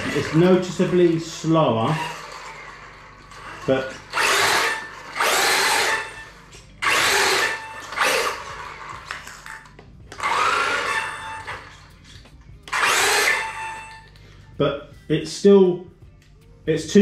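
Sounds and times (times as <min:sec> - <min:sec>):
toy truck electric motor whining: 0:00.0 - 0:14.2.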